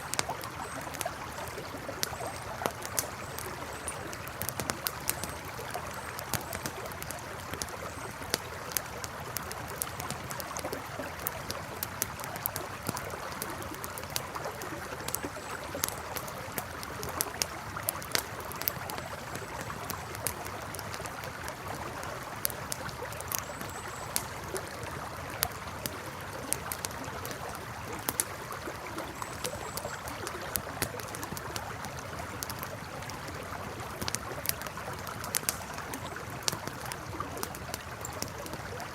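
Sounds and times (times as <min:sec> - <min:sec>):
campfire crackling and popping: 0:00.0 - 0:38.9
river flowing: 0:00.0 - 0:38.9.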